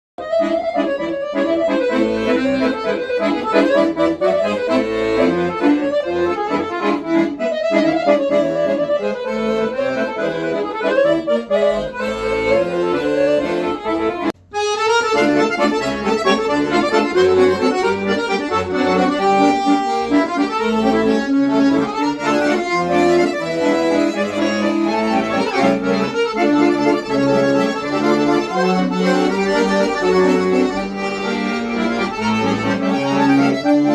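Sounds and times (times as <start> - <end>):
accordion melody with bass notes: 0.2 - 33.9.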